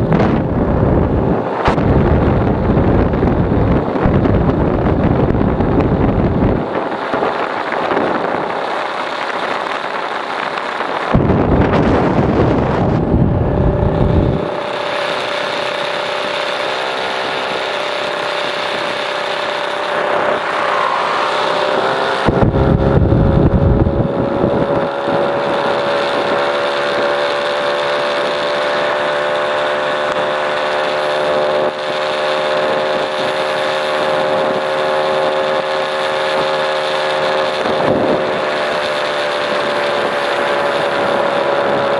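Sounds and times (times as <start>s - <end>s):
two-stroke motorcycle engine running: 0.0s - 41.9s
wind buffeting microphone: 0.0s - 41.9s.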